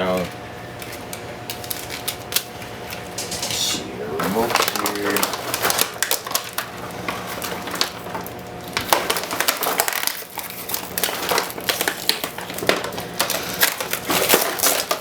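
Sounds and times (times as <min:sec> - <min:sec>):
packaging crinkling and crackling: 0:00.3 - 0:03.3, 0:04.2 - 0:15.0.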